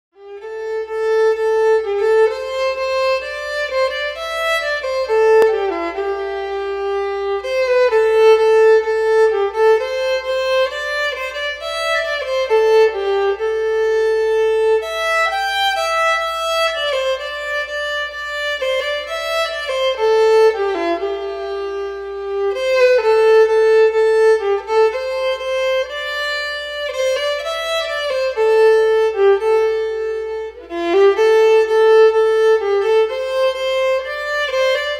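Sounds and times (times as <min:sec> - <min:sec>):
violin melody: 0:00.1 - 0:34.9.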